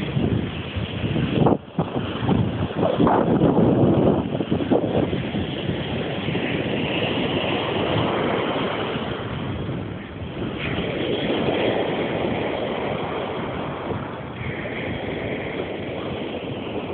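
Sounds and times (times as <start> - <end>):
surf washing onto beach: 0.0 - 16.9
wind buffeting microphone: 0.0 - 16.9.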